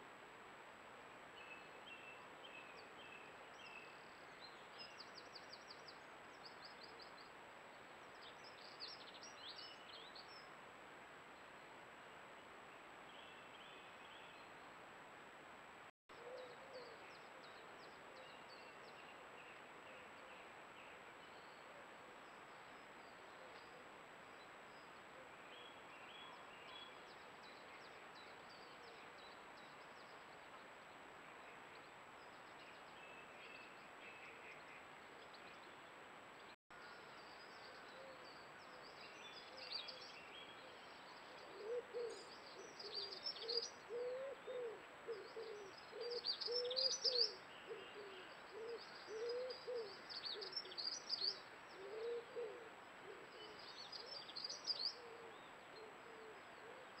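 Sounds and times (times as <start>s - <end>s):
faint birdsong: 1.0s - 15.0s, 16.1s - 57.0s.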